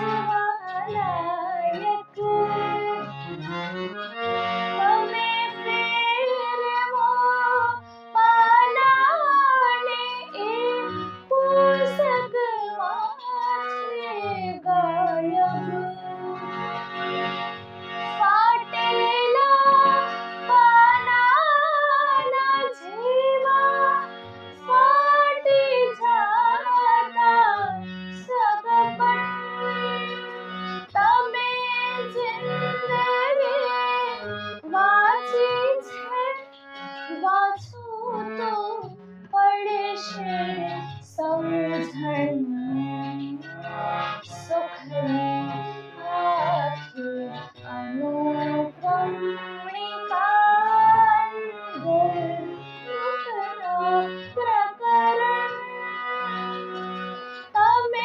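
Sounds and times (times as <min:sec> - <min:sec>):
woman singing: 0:00.0 - 0:03.2, 0:04.8 - 0:16.7, 0:18.0 - 0:43.6, 0:44.2 - 0:56.2, 0:57.5 - 0:58.0
instrumental accompaniment: 0:00.0 - 0:58.0.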